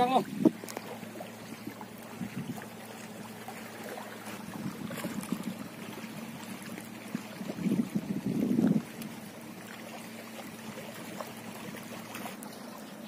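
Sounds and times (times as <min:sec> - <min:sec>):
water lapping among rocks: 0:00.0 - 0:13.0
low hum: 0:00.2 - 0:13.0.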